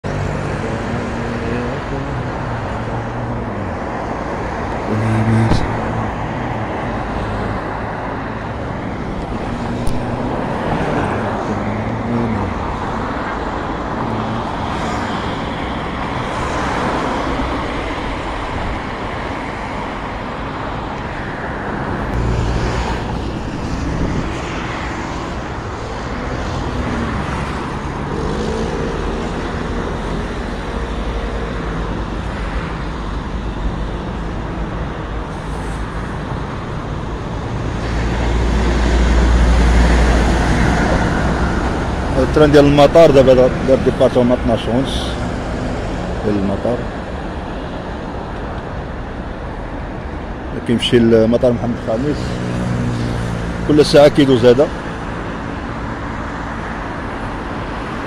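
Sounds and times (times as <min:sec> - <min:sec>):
passing car engines: 0:00.0 - 0:58.0
traffic rumble: 0:00.0 - 0:58.0.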